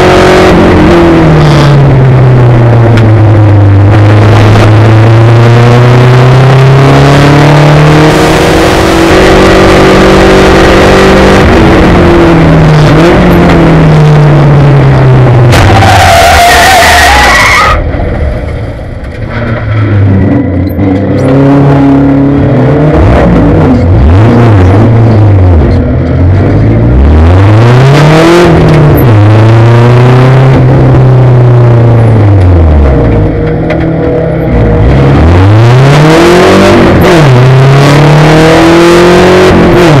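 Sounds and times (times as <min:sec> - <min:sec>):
racing car engine accelerating: 0:00.0 - 0:18.6, 0:19.4 - 0:40.0.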